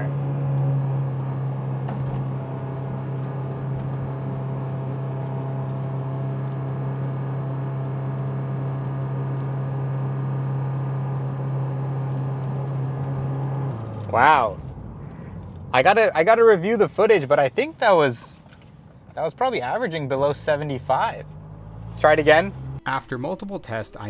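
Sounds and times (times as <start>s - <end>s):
car engine and exhaust drone: 0.0s - 24.0s.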